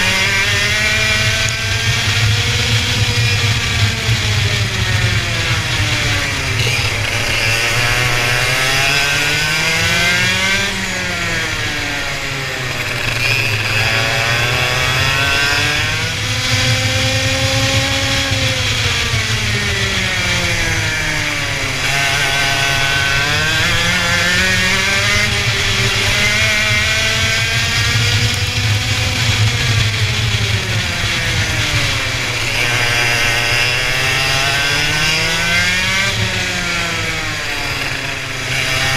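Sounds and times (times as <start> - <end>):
racing engine accelerating and slowing: 0.0 - 38.9
steady low drone: 0.0 - 38.9.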